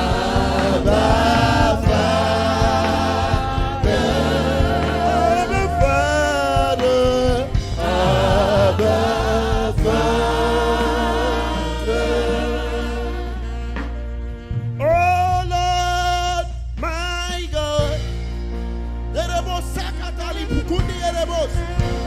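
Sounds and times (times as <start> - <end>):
bass notes: 0.0 - 22.0
gospel singing lead voice: 0.0 - 22.0.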